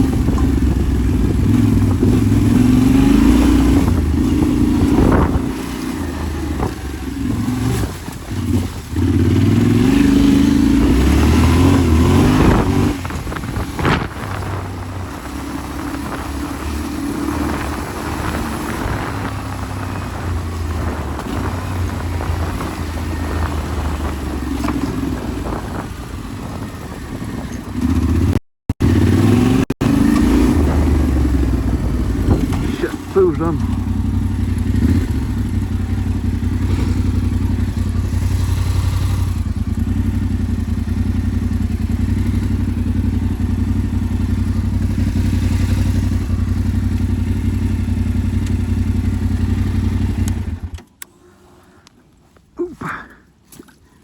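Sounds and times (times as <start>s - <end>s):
motorcycle engine revving: 0.0s - 51.1s.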